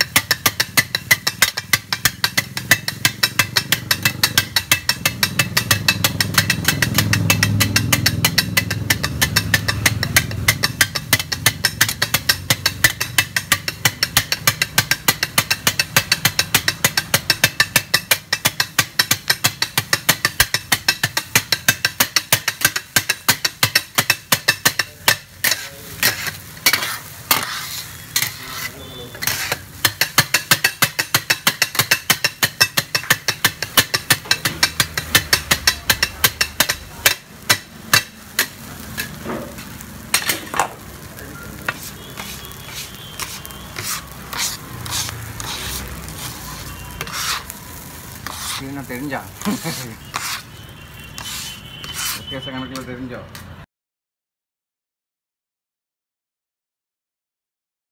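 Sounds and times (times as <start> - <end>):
metal blades clanging on griddle: 0.0 - 53.4.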